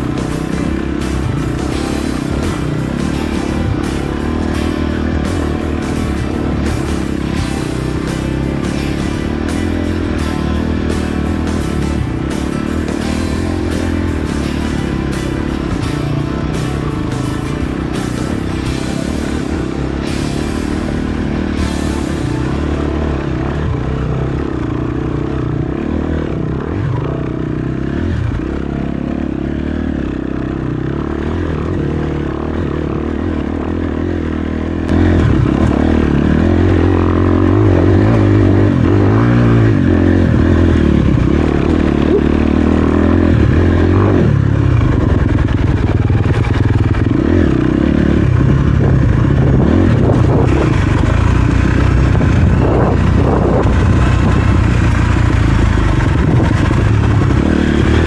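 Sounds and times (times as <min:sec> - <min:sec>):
bike rattling and scraping: 0:00.0 - 0:58.0
dirt bike engine revving: 0:00.0 - 0:58.0.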